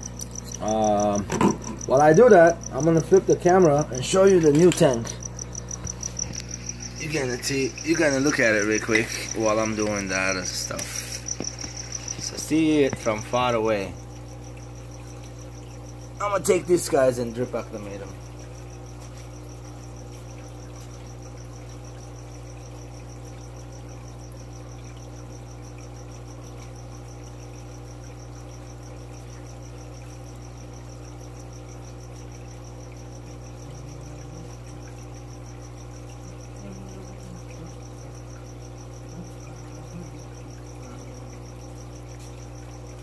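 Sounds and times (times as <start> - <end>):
low electrical hum: 0.0 - 43.0.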